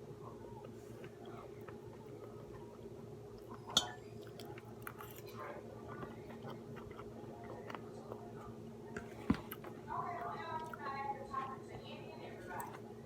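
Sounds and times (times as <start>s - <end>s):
person chewing food: 0.0s - 11.6s
steady low hum: 0.0s - 13.0s.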